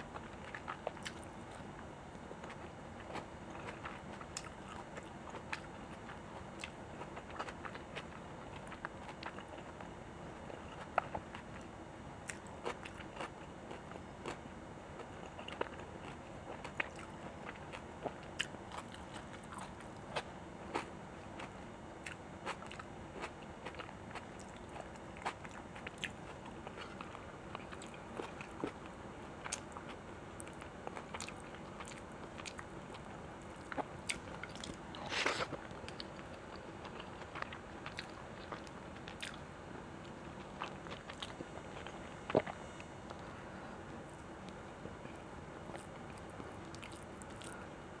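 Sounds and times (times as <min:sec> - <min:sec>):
person chewing food: 0:00.1 - 0:09.9, 0:10.5 - 0:14.4, 0:15.0 - 0:39.4, 0:40.0 - 0:43.3, 0:44.1 - 0:47.7.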